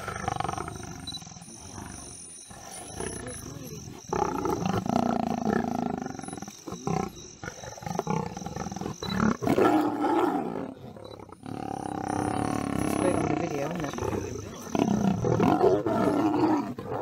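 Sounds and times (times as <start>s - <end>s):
lions growling and snarling: 0.0s - 17.0s.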